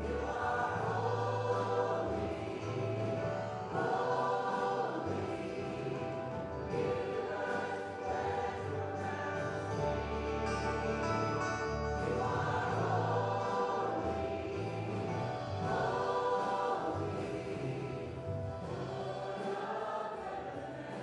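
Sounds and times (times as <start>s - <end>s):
instrumental accompaniment: 0.0s - 20.9s
choir singing: 0.0s - 21.0s.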